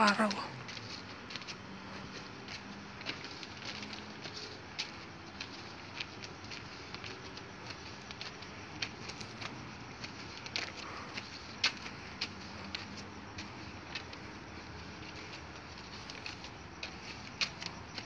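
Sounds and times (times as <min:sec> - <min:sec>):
footsteps on a street: 0:00.0 - 0:18.0.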